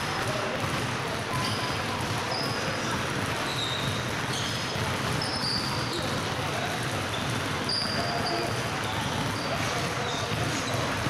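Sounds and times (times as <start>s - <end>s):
basketballs bouncing on hardwood: 0.0s - 11.0s
sneaker squeaks: 0.0s - 11.0s.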